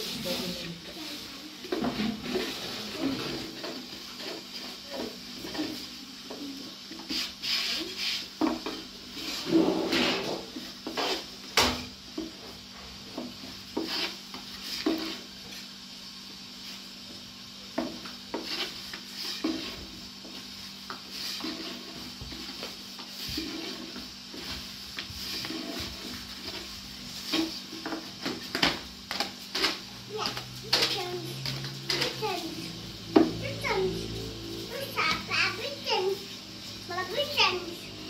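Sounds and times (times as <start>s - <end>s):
rolling pin rolling dough: 0.0s - 11.5s, 12.2s - 15.7s, 17.7s - 38.0s.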